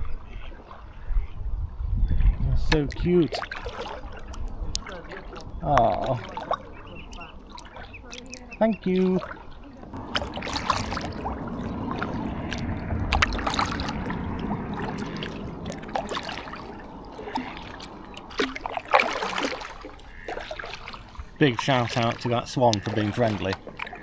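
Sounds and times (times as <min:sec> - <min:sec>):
paddle splashing in water: 0:02.2 - 0:24.0.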